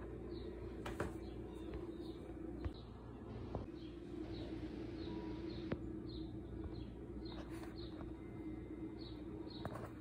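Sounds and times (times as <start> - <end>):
low hum: 0.0 - 10.0
small bird chirping: 0.2 - 10.0.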